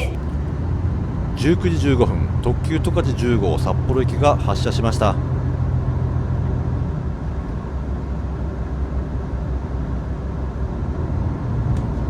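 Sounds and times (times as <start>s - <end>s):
train engine and running rumble: 0.0s - 12.0s.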